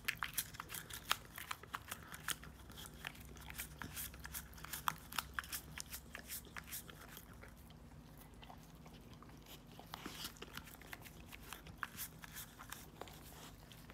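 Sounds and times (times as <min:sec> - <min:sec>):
puppy licking and lapping: 0:00.0 - 0:13.9.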